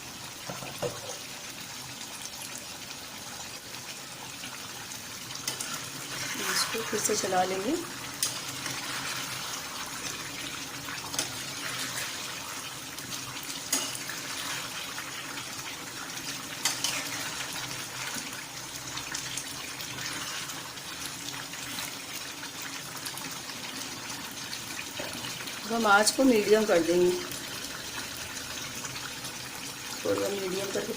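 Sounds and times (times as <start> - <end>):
chicken sizzling in a pot: 0.0 - 30.9.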